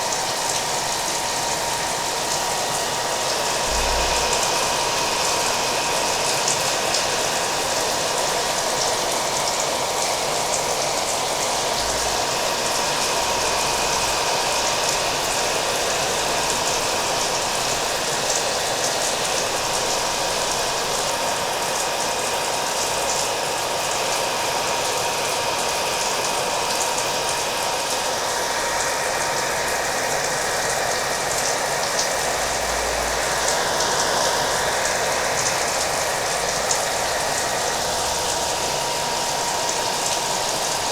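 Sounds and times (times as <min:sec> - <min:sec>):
hair dryer whining: 0:00.0 - 0:40.9.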